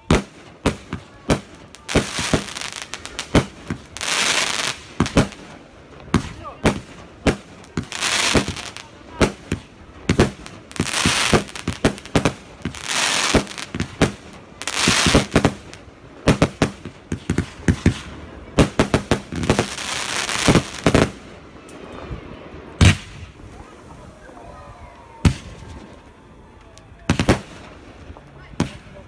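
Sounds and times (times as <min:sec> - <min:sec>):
fireworks bangs: 0:00.0 - 0:24.3, 0:24.9 - 0:29.0
fireworks hissing rushes: 0:00.0 - 0:26.2.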